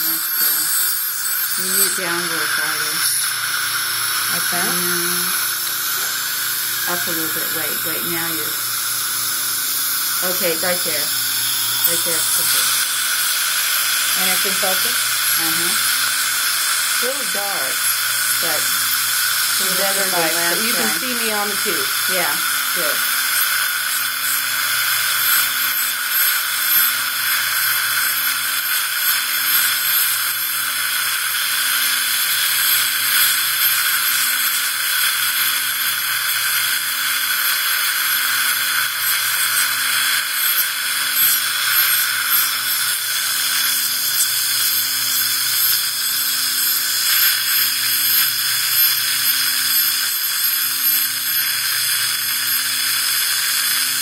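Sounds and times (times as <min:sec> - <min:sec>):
ultrasonic scaler hissing: 0:00.0 - 0:54.0.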